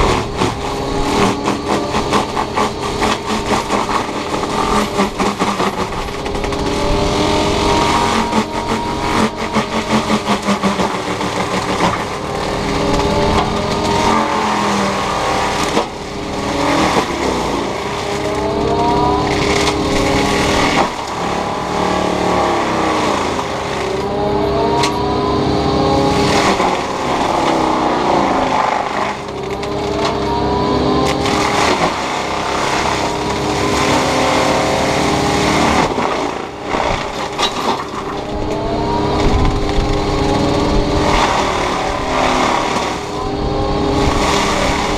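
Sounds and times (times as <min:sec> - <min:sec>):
excavator diesel engine: 0:00.0 - 0:44.9
mulching head whining: 0:00.0 - 0:44.9.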